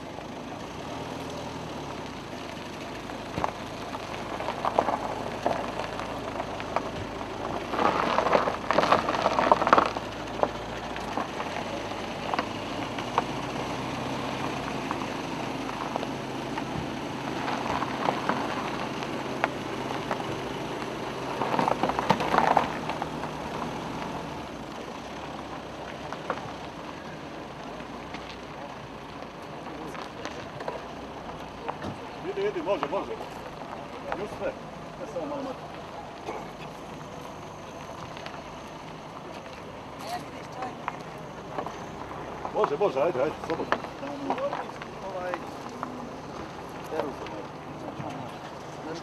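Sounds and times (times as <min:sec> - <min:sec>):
car engines idling: 0:00.0 - 0:49.0
gravel crunching: 0:00.0 - 0:49.0.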